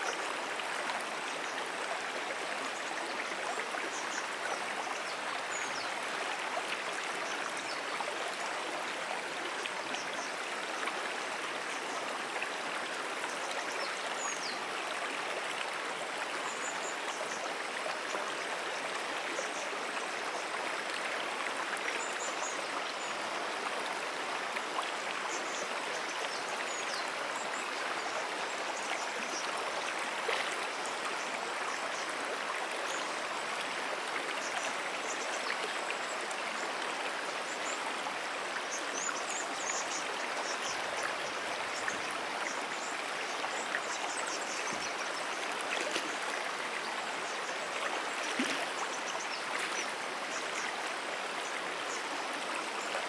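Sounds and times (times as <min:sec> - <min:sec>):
brook water flowing: 0:00.0 - 0:53.0.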